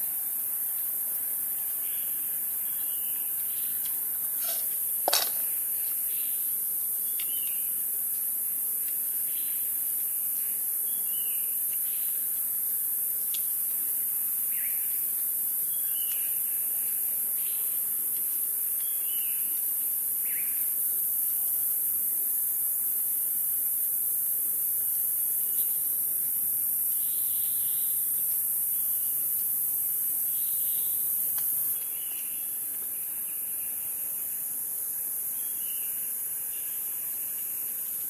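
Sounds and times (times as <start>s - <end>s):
steady high-pitched hiss: 0.0s - 38.0s.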